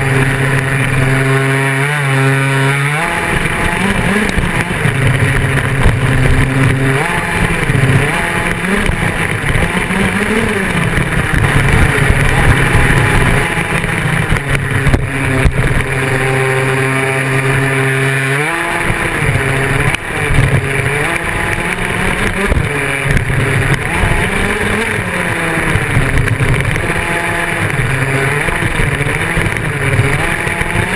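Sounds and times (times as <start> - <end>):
small two-stroke engine revving: 0.0 - 30.9.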